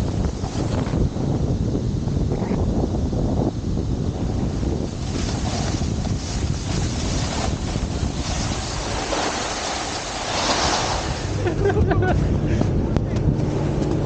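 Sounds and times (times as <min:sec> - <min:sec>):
snowboard hissing over snow: 0:00.0 - 0:12.7
wind buffeting microphone: 0:00.0 - 0:14.0.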